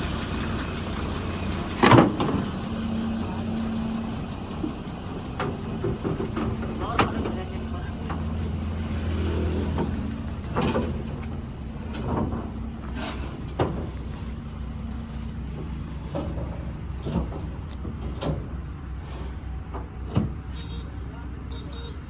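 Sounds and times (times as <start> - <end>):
truck engine idling: 0.0 - 22.0
sharp knocks and clanks: 1.4 - 20.5.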